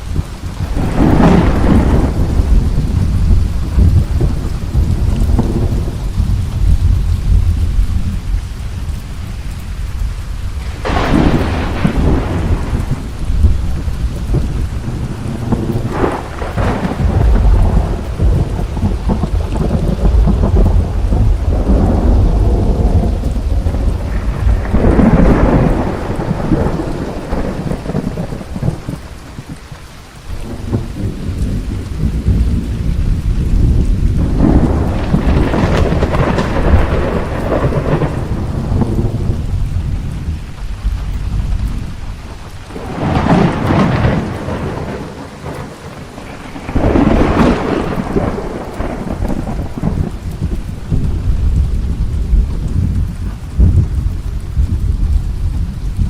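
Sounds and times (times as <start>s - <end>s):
thunder peals: 0.0s - 8.1s, 10.5s - 29.5s, 30.4s - 56.0s
steady rainfall: 0.0s - 56.0s
thunder rumbling: 0.0s - 56.0s.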